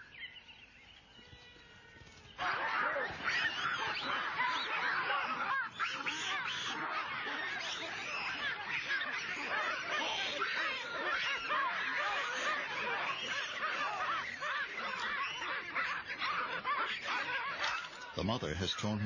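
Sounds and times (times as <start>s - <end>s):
baboons screaming and barking: 0.0s - 19.0s.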